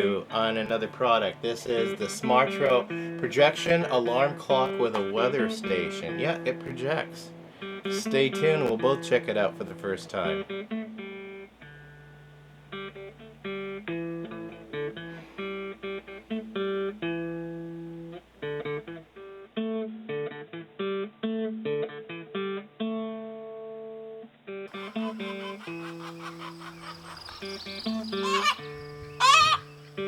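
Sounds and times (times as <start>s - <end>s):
plucked acoustic guitar melody: 0.0s - 23.4s, 24.6s - 30.0s.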